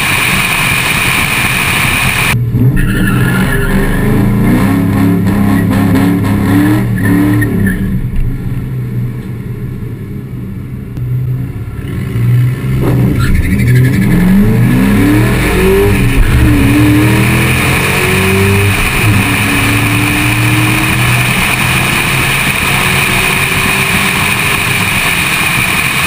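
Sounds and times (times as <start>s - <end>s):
car engine at full throttle: 0.0s - 26.0s.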